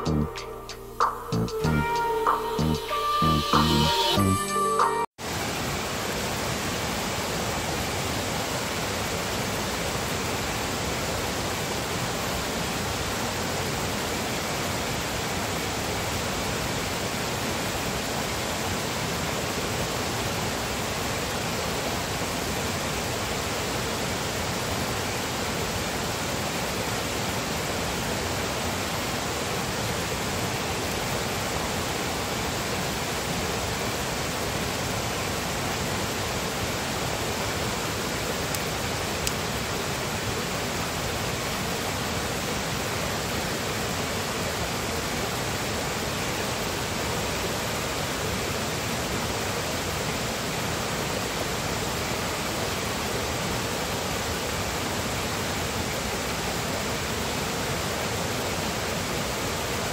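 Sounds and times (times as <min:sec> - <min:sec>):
stream flowing over rocks: 0:05.2 - 0:59.9.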